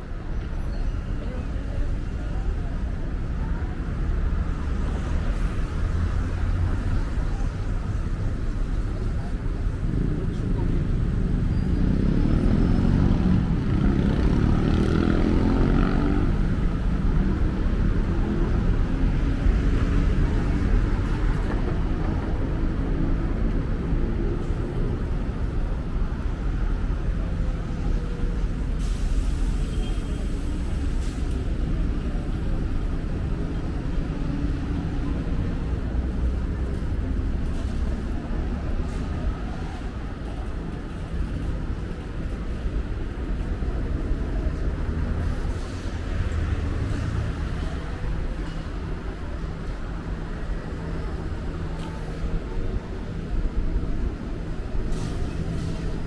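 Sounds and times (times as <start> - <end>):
street traffic rumble: 0.0 - 56.0.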